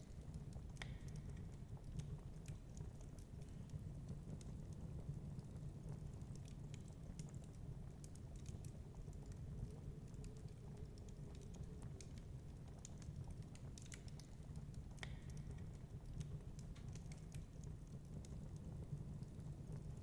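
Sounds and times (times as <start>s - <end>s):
low fire rumble: 0.0s - 20.0s
wood fire crackling and popping: 0.0s - 20.0s.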